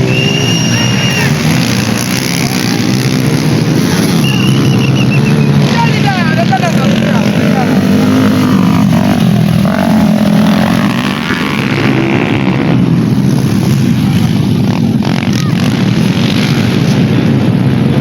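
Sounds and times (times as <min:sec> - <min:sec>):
dirt bike engines running: 0:00.0 - 0:18.0.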